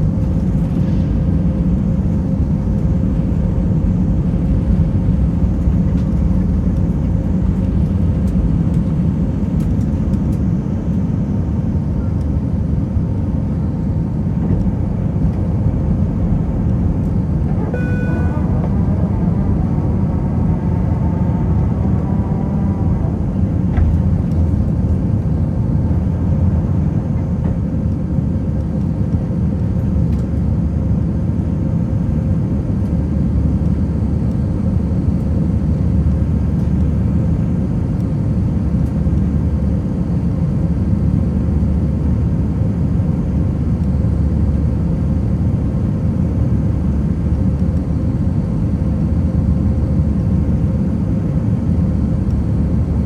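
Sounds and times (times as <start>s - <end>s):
deep rumble of jet engines: 0.0s - 53.0s
faint constant hum: 0.0s - 53.0s.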